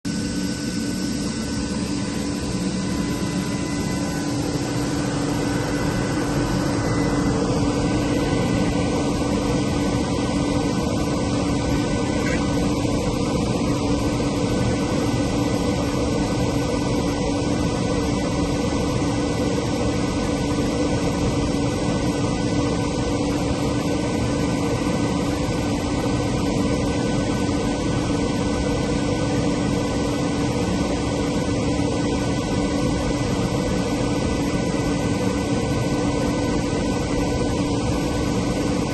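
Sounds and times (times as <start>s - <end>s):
air compressor humming and hissing: 0.1s - 38.9s.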